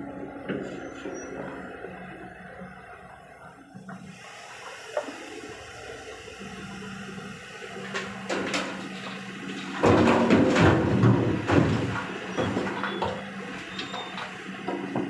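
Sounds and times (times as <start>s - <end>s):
excavator engine hum: 0.0s - 15.0s.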